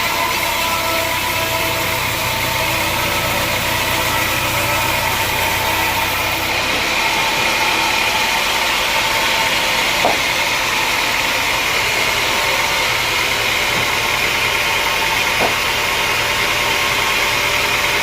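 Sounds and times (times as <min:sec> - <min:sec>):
machinery engine idling: 0:00.0 - 0:18.0.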